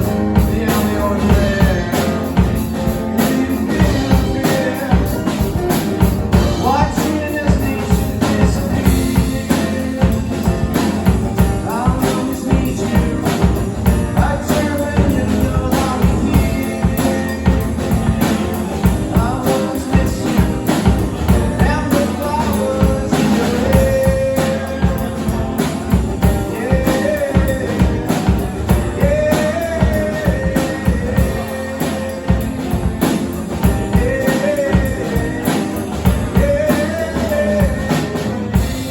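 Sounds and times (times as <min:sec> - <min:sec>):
drum kit beat: 0:00.0 - 0:38.9
guitar with bending melodic lines: 0:00.0 - 0:38.9.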